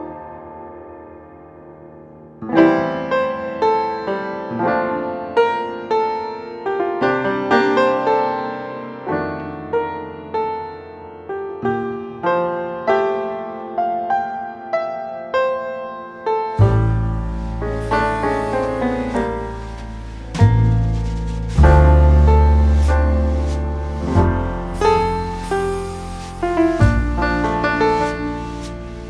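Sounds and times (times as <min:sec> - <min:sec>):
soft piano music: 0:00.0 - 0:29.0.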